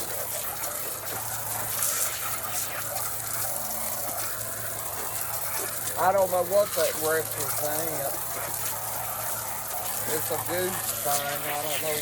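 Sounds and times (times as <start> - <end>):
water gushing: 0.0 - 12.0.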